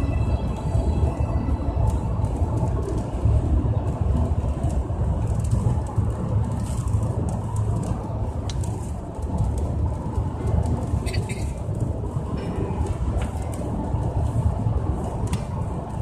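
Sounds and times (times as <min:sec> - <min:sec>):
car cabin road rumble: 0:00.0 - 0:16.0
faint clicks and rustles: 0:00.0 - 0:16.0.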